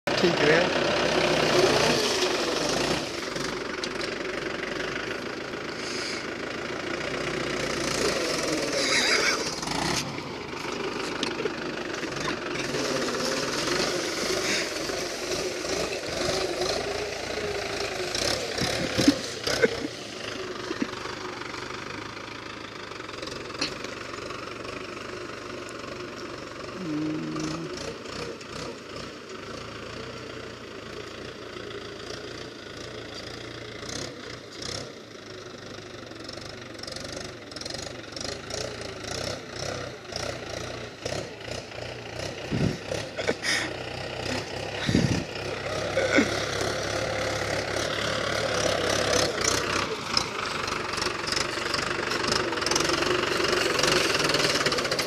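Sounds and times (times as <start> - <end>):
tractor diesel engine: 0.0 - 55.0.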